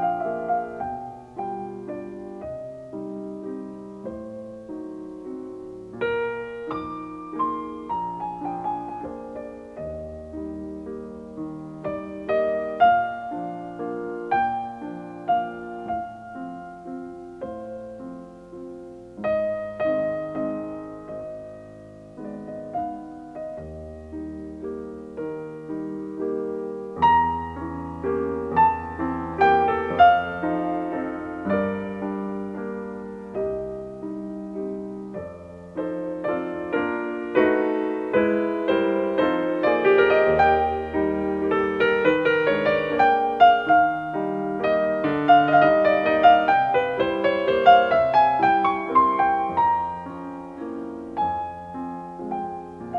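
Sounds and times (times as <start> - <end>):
gentle piano piece: 0.0 - 52.9.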